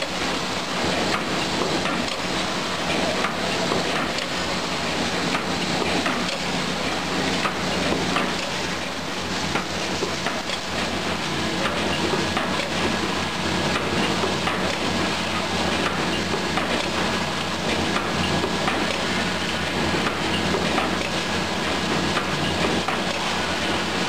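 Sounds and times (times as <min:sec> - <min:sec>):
machinery clattering: 0:00.0 - 0:24.0
machine clicks: 0:00.8 - 0:04.4, 0:05.2 - 0:11.0, 0:11.6 - 0:13.0, 0:13.7 - 0:21.3, 0:21.9 - 0:23.9.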